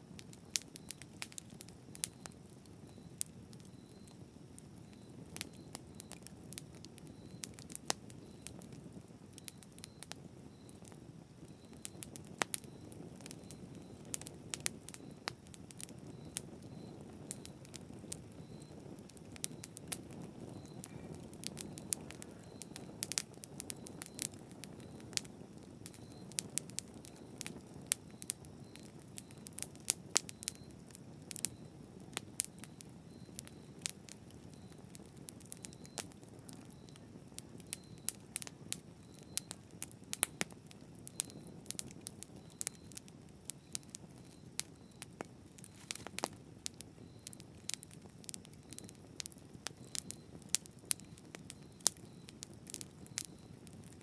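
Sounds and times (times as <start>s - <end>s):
burning wood crackling and popping: 0.0s - 54.0s
campfire flames rushing: 0.1s - 54.0s.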